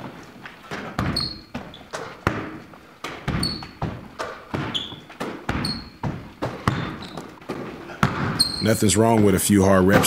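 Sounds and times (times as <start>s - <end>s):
sneaker squeaks: 0.0s - 8.9s
basketball bouncing on wooden floor: 0.7s - 10.0s.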